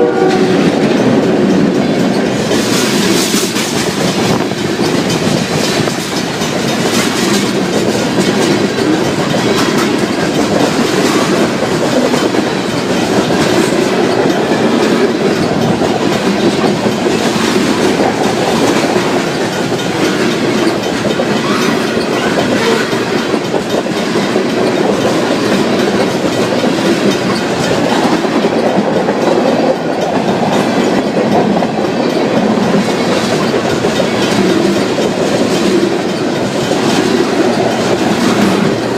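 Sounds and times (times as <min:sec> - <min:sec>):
train wheels clacking over rails: 0:00.0 - 0:38.9.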